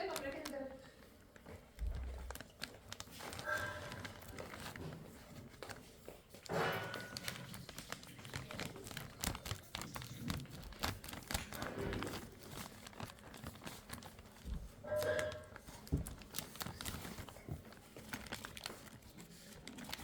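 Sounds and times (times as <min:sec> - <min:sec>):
cardboard and plastic packaging crinkling: 0:00.0 - 0:20.0.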